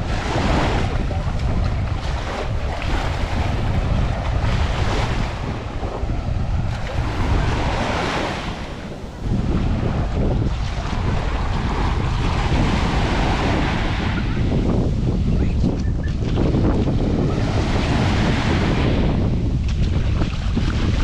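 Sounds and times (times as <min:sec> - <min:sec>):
surf washing up a beach: 0:00.0 - 0:21.0.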